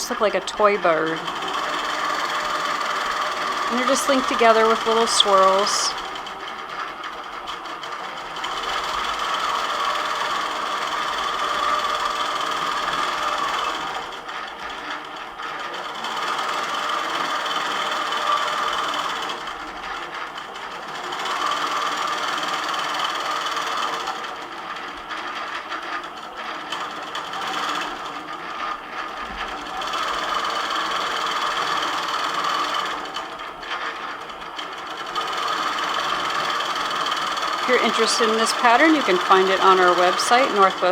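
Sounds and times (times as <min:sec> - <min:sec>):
quilting machine stitching: 0:00.0 - 0:40.9.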